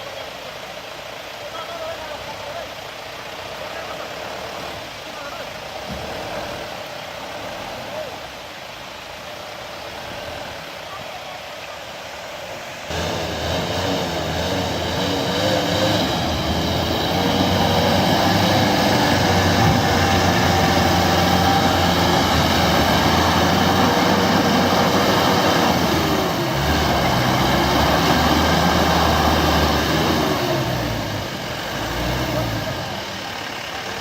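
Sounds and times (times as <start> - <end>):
road noise: 0.0 - 34.0
vehicle engine running under load: 0.1 - 11.1, 11.9 - 34.0.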